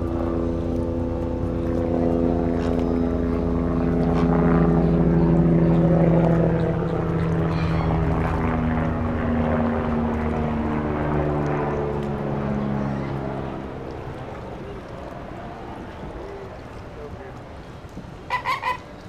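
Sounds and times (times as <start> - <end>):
airplane engine drone: 0.0 - 19.0.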